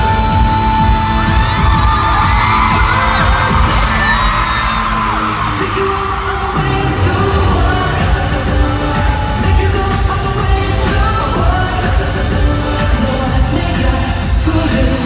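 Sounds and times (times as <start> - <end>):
crowd screaming and cheering: 0.0 - 15.0
live pop music with bass beat: 0.0 - 15.0.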